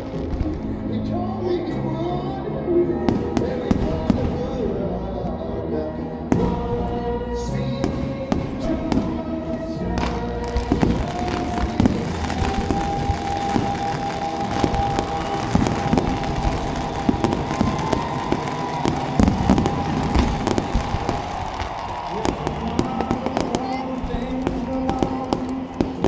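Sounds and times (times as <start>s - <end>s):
fireworks bursting: 0.0s - 1.1s, 2.9s - 4.7s, 6.3s - 26.0s
stadium music held notes: 0.0s - 26.0s.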